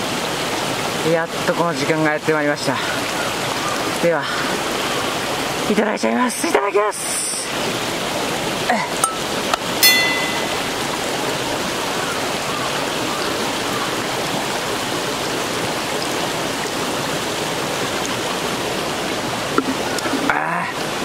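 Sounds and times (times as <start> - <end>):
stream running over rocks: 0.0 - 21.0.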